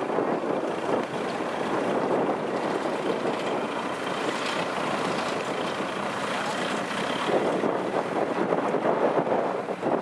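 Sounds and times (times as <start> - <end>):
combine harvester running: 0.1 - 10.0.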